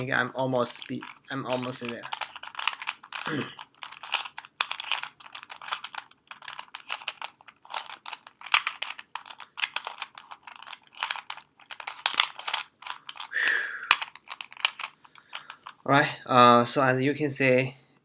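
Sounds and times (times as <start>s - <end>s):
plastic puzzle cube clicking: 0.7s - 15.8s.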